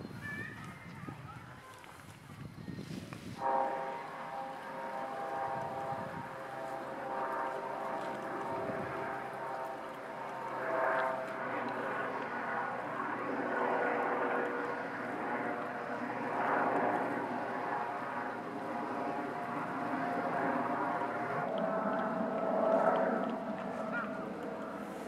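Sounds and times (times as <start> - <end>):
engine drone with held tones: 3.4 - 25.0.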